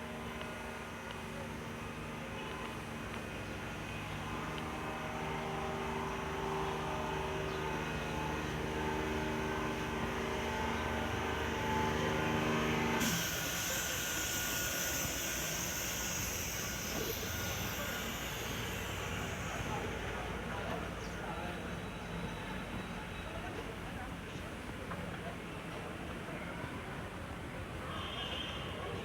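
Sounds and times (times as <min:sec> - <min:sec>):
tram humming: 0:00.0 - 0:29.0.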